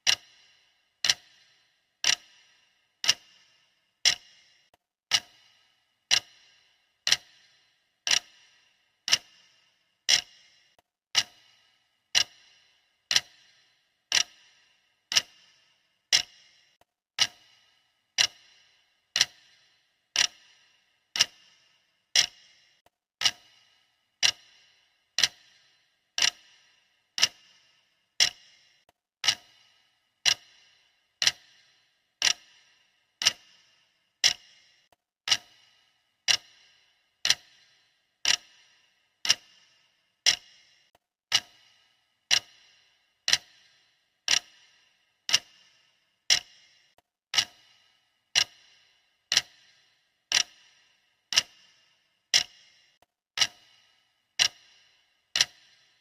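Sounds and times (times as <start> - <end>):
clock ticking with bright ring: 0.0 - 56.0.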